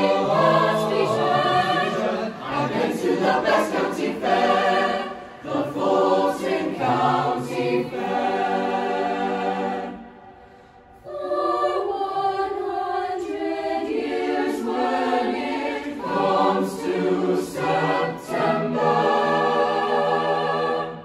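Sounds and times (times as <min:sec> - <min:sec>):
a cappella choir singing: 0:00.0 - 0:21.0.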